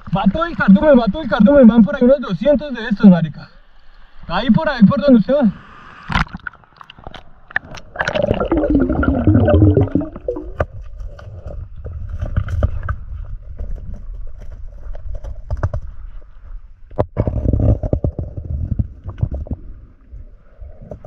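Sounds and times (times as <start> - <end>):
underwater rumble and gurgling: 3.0 - 21.0.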